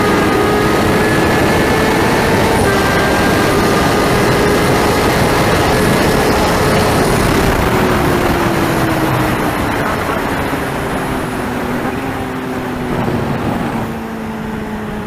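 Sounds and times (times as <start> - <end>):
superbike engine running hard: 0.0 - 15.0.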